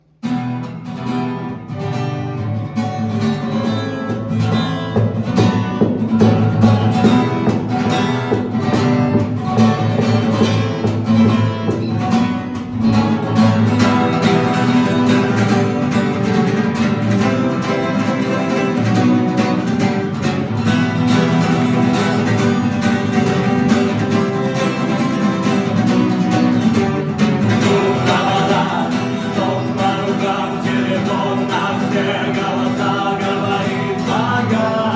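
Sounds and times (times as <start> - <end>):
strummed guitar: 0.0 - 34.9.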